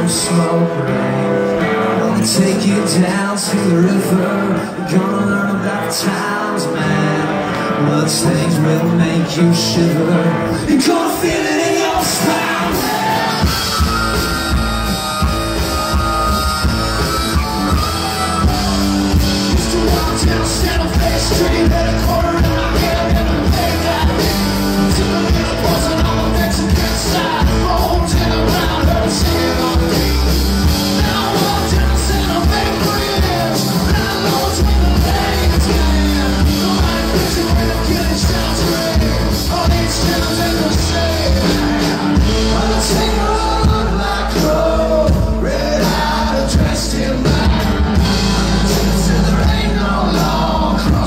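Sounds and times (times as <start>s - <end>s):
live country band playing: 0.0s - 51.0s.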